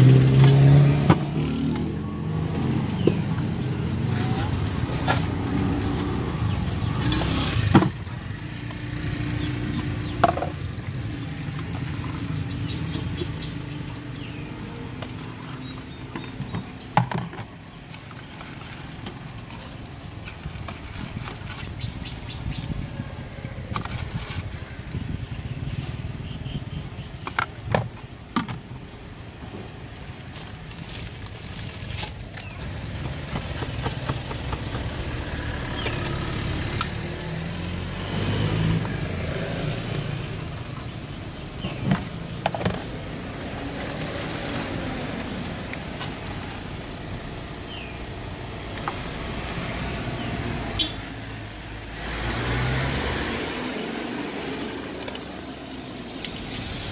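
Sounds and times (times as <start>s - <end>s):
road traffic rumble: 0.0s - 56.9s.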